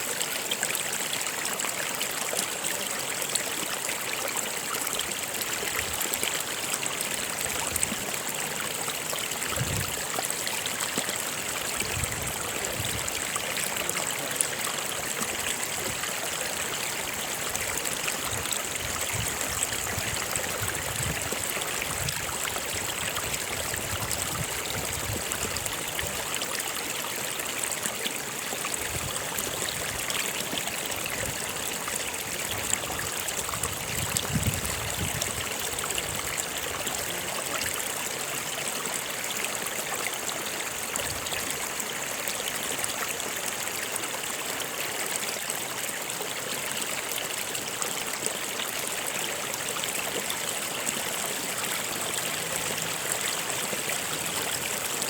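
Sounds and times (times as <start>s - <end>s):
stream gurgling: 0.0s - 55.0s.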